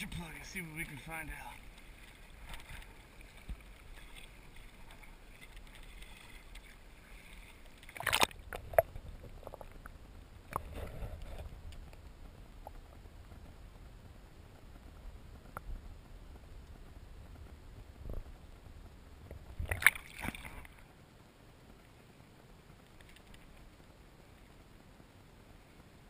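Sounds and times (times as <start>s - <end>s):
water lapping against a hull: 0.0s - 21.0s.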